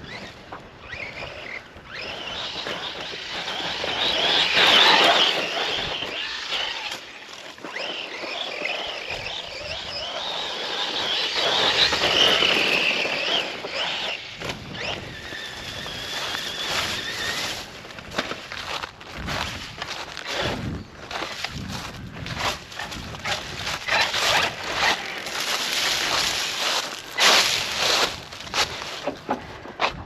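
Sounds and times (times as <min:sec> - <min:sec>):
electric motor whining: 0:00.0 - 0:18.5, 0:19.2 - 0:29.4.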